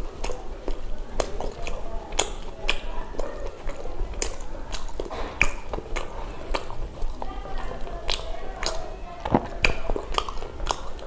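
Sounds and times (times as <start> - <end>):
wet mouth smacks and clicks: 0.0 - 8.8, 9.4 - 11.0
chewing soft food: 0.0 - 11.0.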